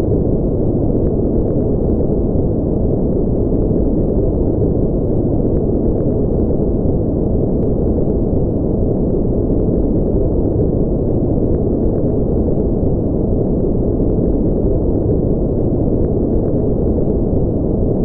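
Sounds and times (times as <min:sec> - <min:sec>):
deep synthetic white noise: 0:00.0 - 0:18.0.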